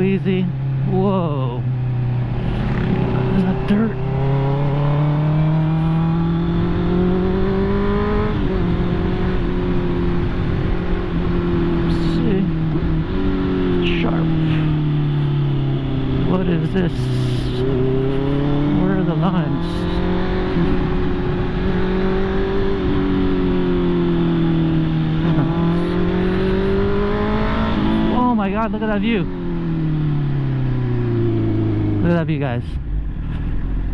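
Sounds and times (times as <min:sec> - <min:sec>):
motorcycle engine revving: 0:00.0 - 0:33.9
wind and road rush: 0:00.0 - 0:33.9.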